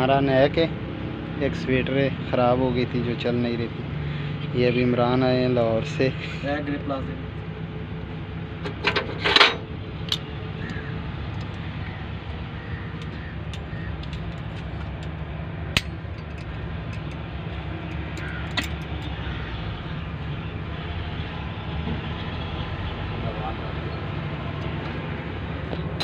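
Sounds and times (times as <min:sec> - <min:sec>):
low mechanical rumble: 0:00.0 - 0:26.0.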